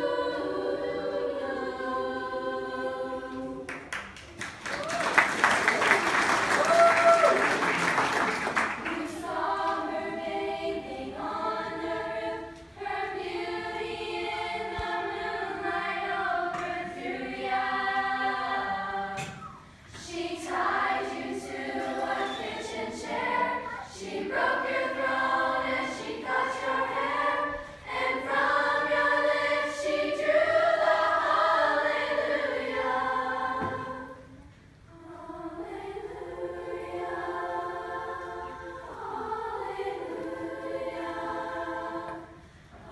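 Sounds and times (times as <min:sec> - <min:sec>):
youth choir singing: 0:00.0 - 0:03.9, 0:07.3 - 0:42.9.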